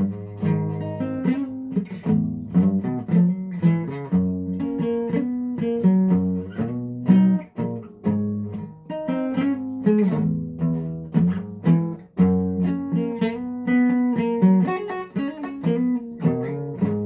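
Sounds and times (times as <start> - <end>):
guitar strumming chords: 0.0 - 17.0.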